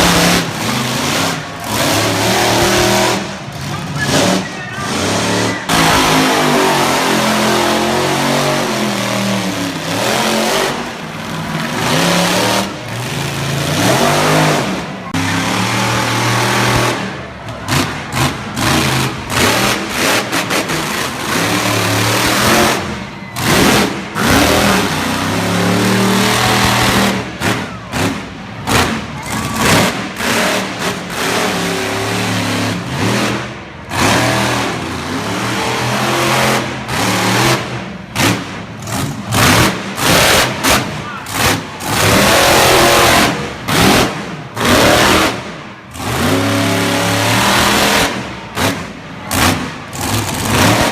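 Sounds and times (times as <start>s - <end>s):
monster truck engines revving: 0.0s - 50.9s.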